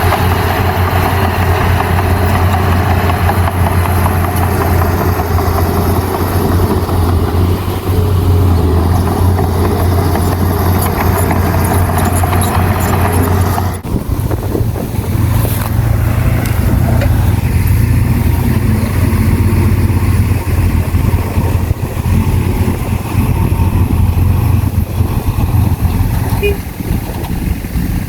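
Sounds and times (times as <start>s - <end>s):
diesel machinery engine running: 0.0s - 28.0s.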